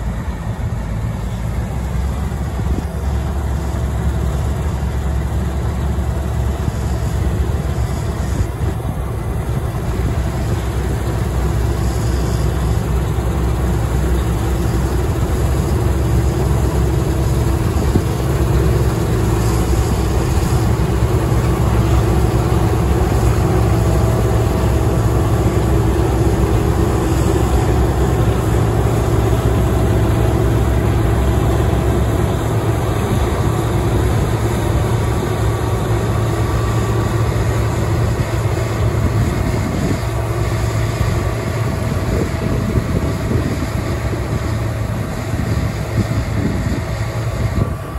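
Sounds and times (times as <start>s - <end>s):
combine harvester humming: 0.0s - 47.9s.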